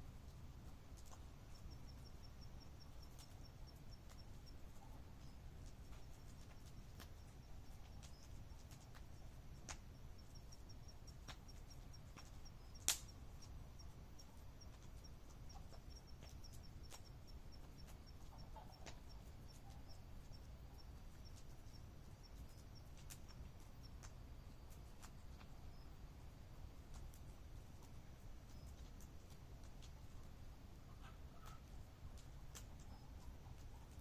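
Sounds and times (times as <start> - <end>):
night insect chirping: 0.0 - 34.0
campfire crackling and popping: 0.1 - 30.6, 31.4 - 34.0.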